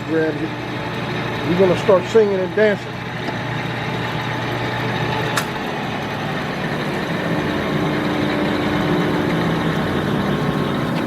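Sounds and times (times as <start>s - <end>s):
lathe running: 0.0s - 11.0s.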